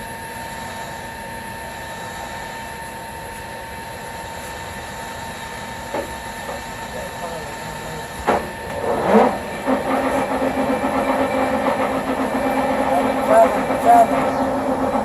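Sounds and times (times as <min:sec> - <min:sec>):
lathe running: 0:00.0 - 0:15.0
spindle drive whine: 0:00.0 - 0:15.0.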